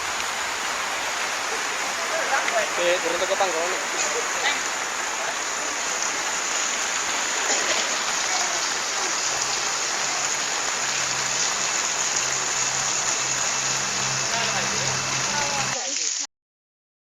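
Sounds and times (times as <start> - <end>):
low steady hum: 0.0 - 15.8
waterfall rushing: 0.0 - 16.3.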